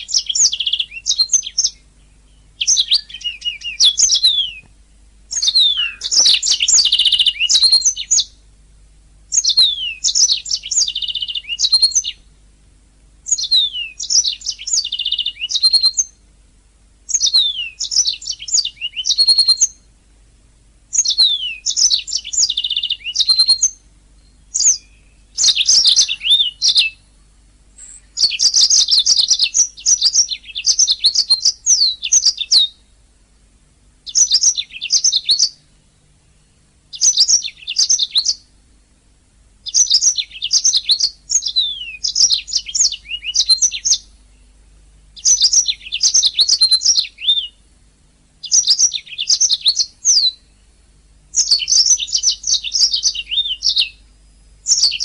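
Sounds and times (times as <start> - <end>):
canary singing: 0.0 - 4.7, 5.3 - 8.4, 9.3 - 12.3, 13.2 - 16.3, 17.1 - 19.9, 20.9 - 33.0, 34.0 - 38.6, 39.6 - 47.7, 48.4 - 55.0.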